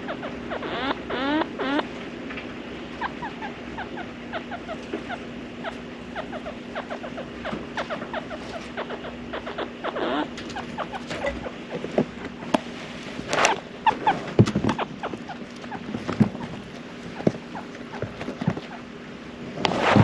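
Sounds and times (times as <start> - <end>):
chinchilla squeaking: 0.0 - 1.9, 2.9 - 12.7, 13.3 - 18.9
faint steady hum: 0.0 - 20.0.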